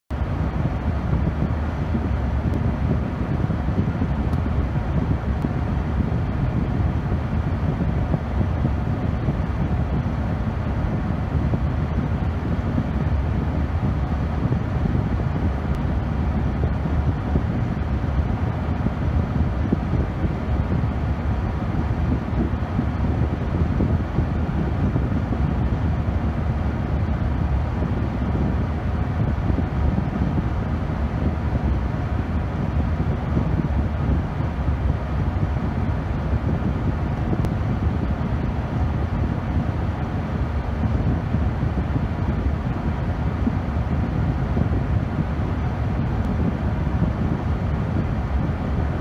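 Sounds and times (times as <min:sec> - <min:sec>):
wind buffeting microphone: 0:00.1 - 0:49.0.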